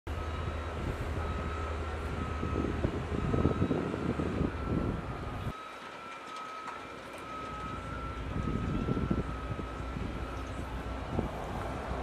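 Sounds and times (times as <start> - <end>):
machinery rumble: 0.1 - 12.0
wind: 0.1 - 12.0.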